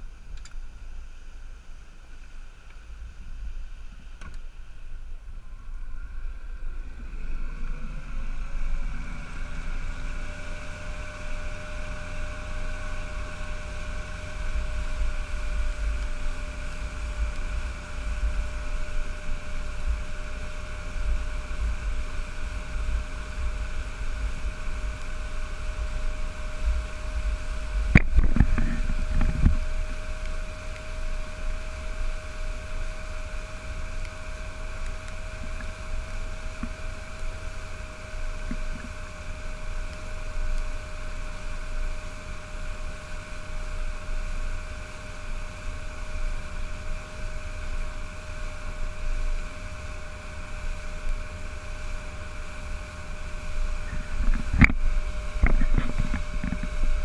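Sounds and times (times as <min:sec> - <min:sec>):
outboard motor running: 0:05.7 - 0:57.0.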